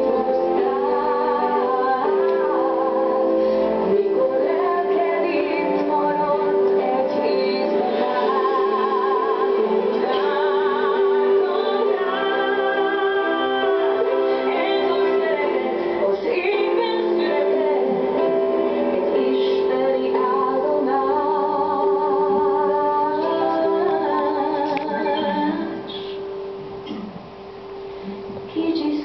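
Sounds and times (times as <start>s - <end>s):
woman singing with vibrato: 0.0s - 26.4s, 28.5s - 29.0s.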